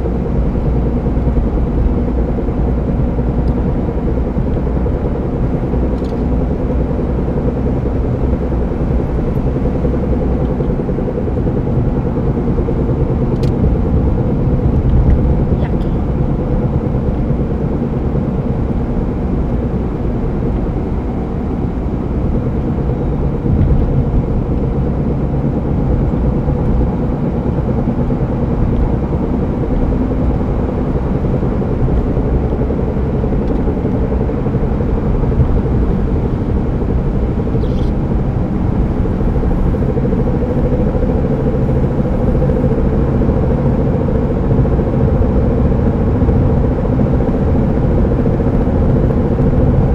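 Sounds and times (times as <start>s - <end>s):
road rumble: 0.0s - 49.9s
wheel hum: 0.0s - 49.9s.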